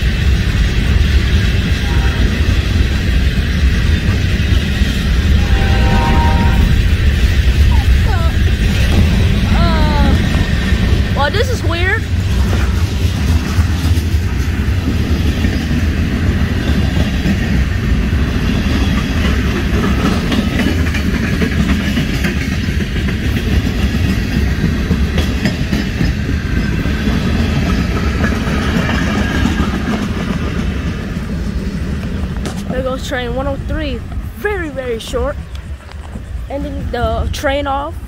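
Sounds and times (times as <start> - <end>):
freight train wheels rumbling on rail: 0.0 - 38.0.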